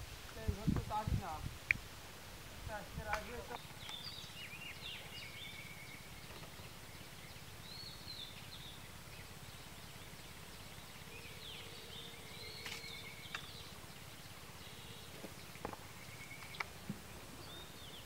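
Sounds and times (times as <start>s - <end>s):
birds chirping: 2.7s - 18.0s.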